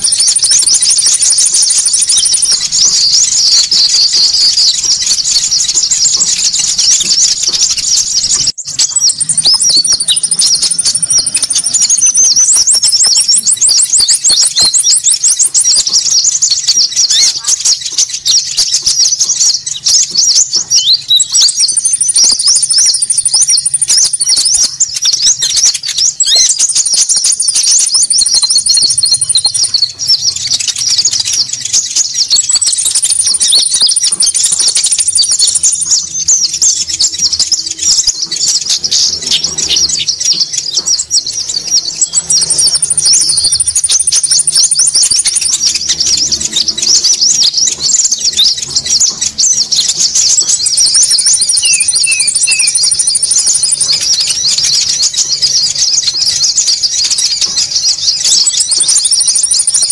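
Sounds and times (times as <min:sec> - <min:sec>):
rapid high bird chirps: 0:00.0 - 0:59.9.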